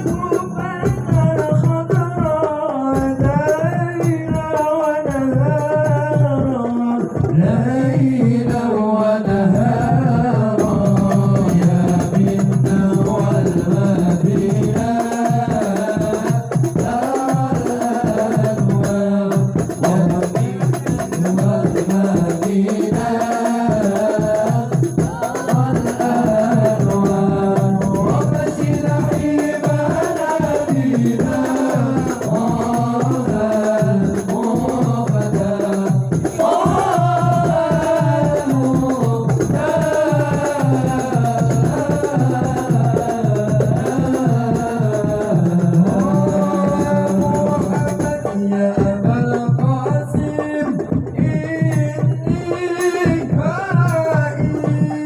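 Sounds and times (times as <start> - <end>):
hand drum percussion: 0.0 - 55.0
person singing devotional song: 0.0 - 55.0.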